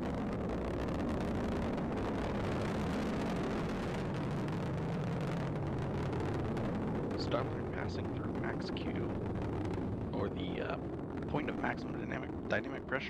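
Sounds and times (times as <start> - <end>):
rocket engine deep rumble: 0.0 - 13.0.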